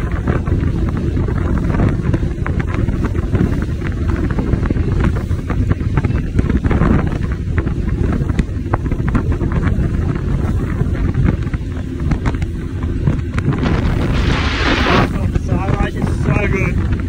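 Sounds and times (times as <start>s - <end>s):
motorboat rushing over water: 0.0s - 17.0s
wind buffeting microphone: 0.0s - 17.0s.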